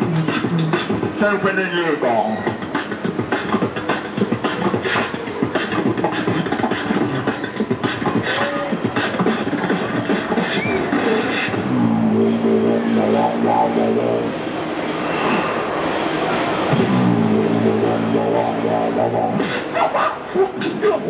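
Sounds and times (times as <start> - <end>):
beatboxing: 0.0 - 14.5, 16.7 - 21.0.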